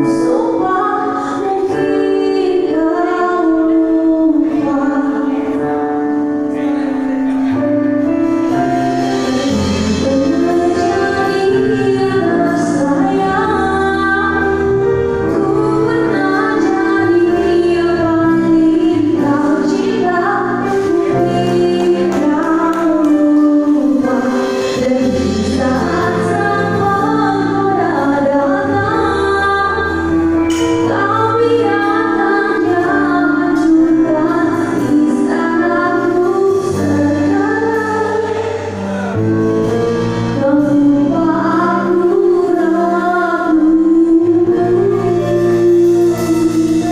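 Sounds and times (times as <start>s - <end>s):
woman singing into microphone: 0.0s - 6.6s, 7.4s - 39.2s, 40.1s - 46.9s
drums: 0.0s - 46.9s.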